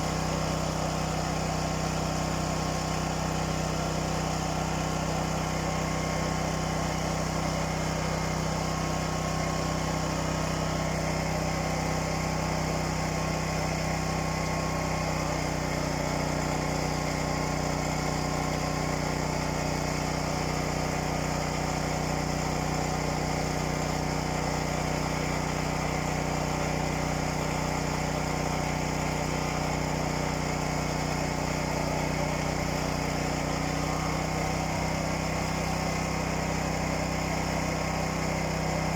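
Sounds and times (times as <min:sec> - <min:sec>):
small engine humming: 0:00.0 - 0:38.9.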